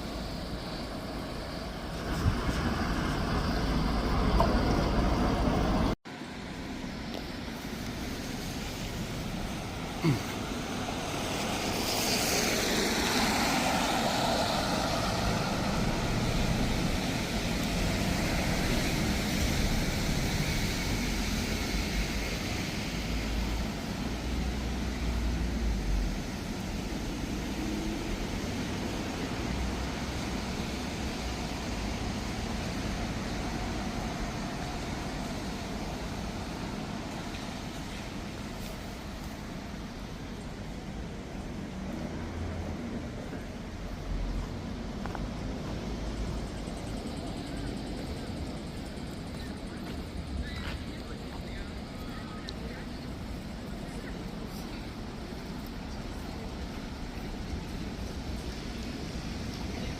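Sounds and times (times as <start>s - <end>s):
traffic on wet streets: 0.0s - 59.9s.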